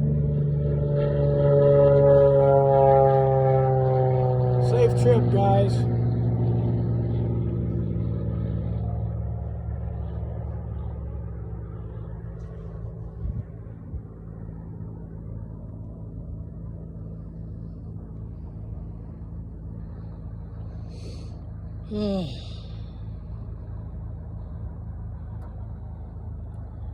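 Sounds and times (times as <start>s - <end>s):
propeller plane engine droning: 0.0s - 26.9s.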